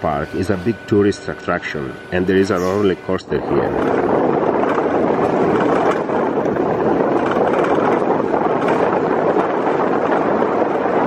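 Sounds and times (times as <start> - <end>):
wheels rolling on rails: 0.0 - 11.0
wind noise on microphone: 0.0 - 11.0.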